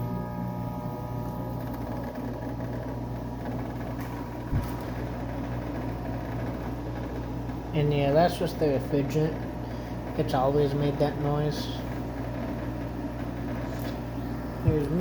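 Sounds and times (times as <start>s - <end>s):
air conditioner running: 0.0s - 15.0s.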